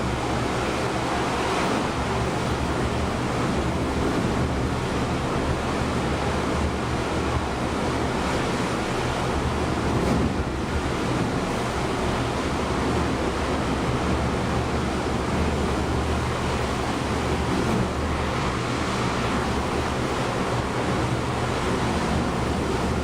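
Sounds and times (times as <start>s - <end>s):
ocean waves rushing: 0.0s - 23.0s
wind: 0.0s - 23.0s.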